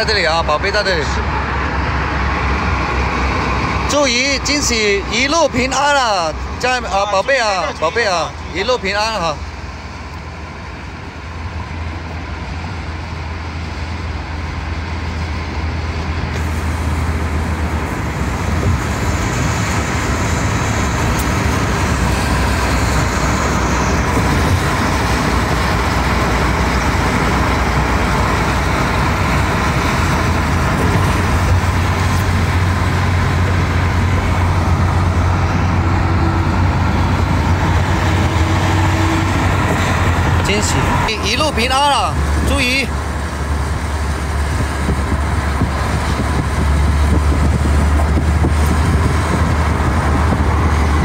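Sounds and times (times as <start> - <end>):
tyre and engine rumble: 0.0 - 51.0.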